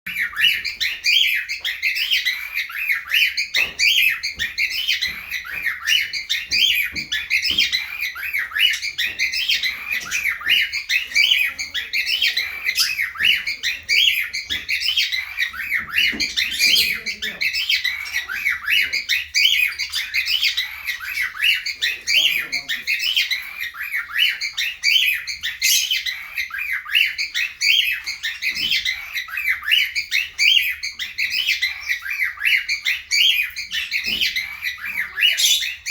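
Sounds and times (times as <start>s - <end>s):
cockatiels chirping and calling: 0.1s - 35.9s.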